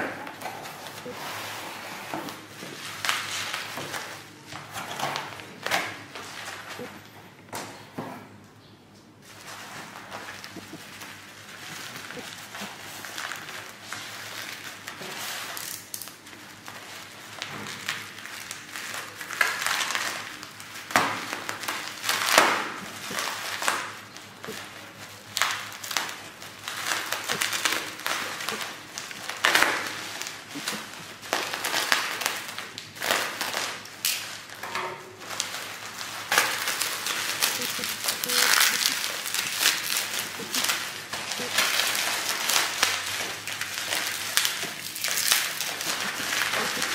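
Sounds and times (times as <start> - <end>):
bubble wrap crinkling: 0.0 - 7.2, 9.2 - 46.9.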